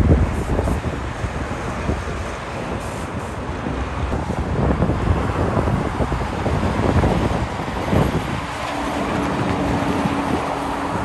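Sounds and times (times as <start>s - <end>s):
highway traffic: 0.0s - 11.0s
truck diesel engine passing: 0.6s - 11.0s.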